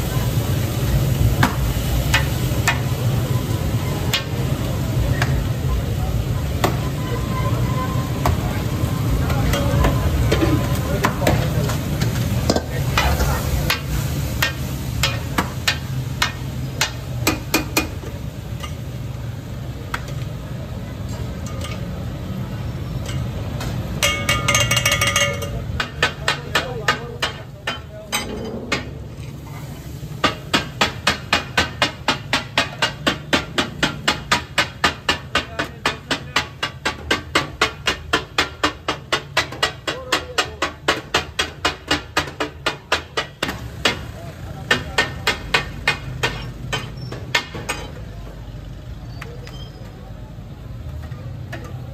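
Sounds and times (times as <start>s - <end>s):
metal spatulas clanging on iron griddle: 1.3s - 5.4s, 9.1s - 19.1s, 21.0s - 22.2s, 22.9s - 48.3s, 50.9s - 51.9s.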